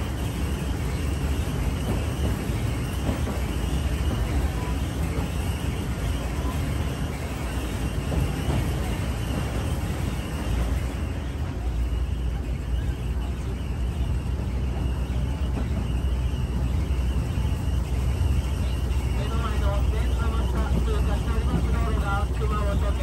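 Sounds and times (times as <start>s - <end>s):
rail cart running on track: 0.0s - 23.0s.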